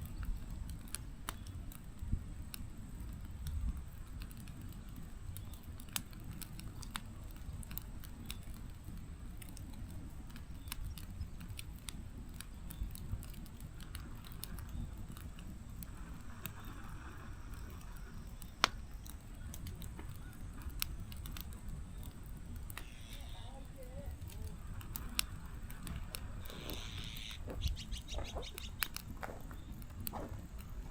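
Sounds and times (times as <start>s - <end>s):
fire crackling and popping: 0.0s - 30.9s
fire rumbling: 0.0s - 30.9s.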